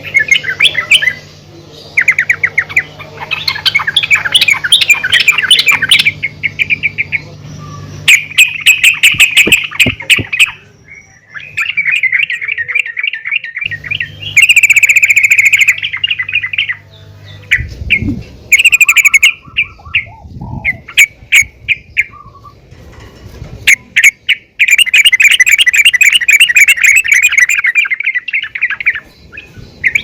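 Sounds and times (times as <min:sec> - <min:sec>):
bird chattering calls: 0:01.9 - 0:22.5, 0:23.7 - 0:30.0.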